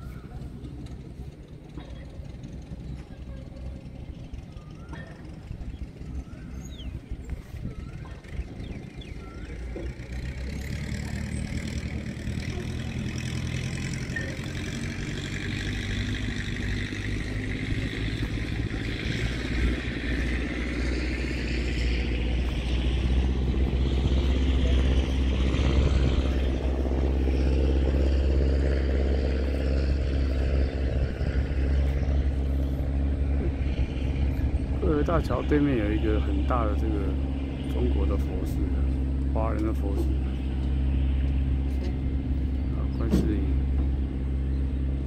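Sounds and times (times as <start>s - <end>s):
engine low hum: 0.0s - 45.0s.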